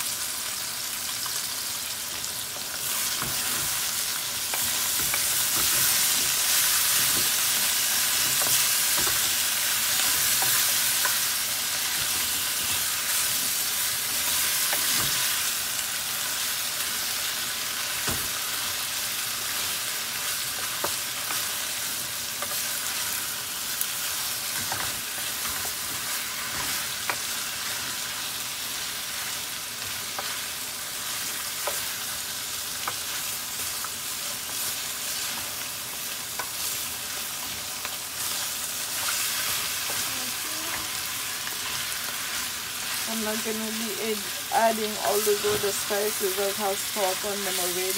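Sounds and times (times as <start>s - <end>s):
food sizzling in hot oil: 0.0s - 47.9s.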